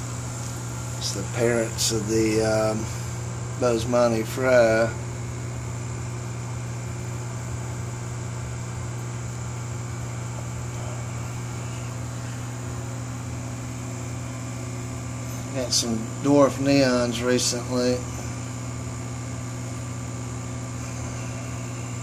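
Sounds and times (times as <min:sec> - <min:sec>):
aquarium pumps humming: 0:00.0 - 0:22.0.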